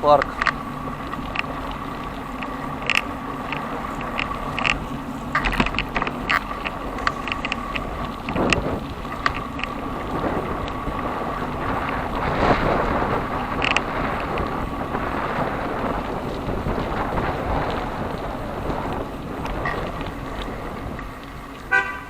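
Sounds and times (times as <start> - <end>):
bicycle parts rattling: 0.0 - 21.8
bicycle rolling: 0.0 - 22.0
wind buffeting microphone: 0.0 - 22.0.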